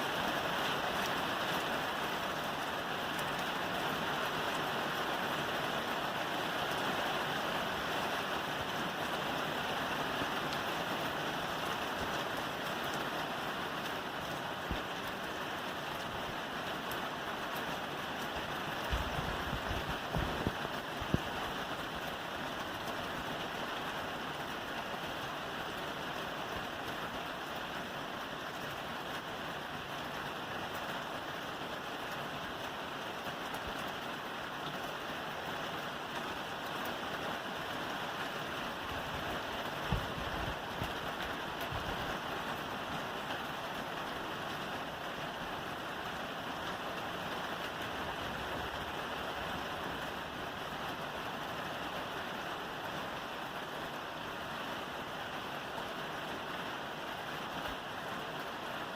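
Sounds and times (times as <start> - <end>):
rain on a roof: 0.0 - 58.9.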